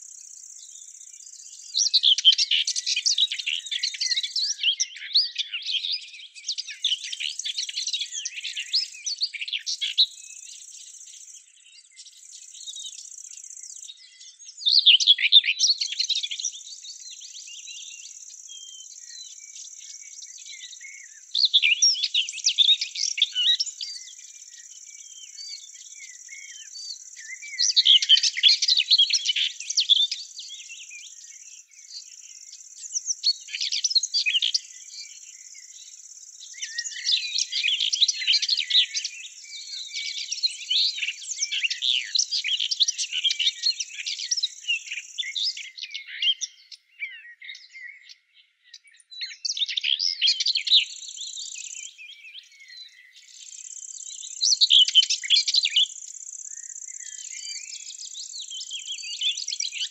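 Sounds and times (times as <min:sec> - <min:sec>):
songbirds twittering: 0:00.0 - 0:59.9.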